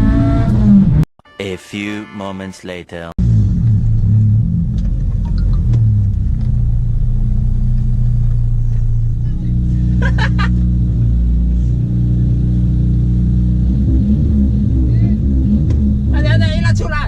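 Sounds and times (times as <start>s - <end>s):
car engine running steadily: 3.2s - 17.0s.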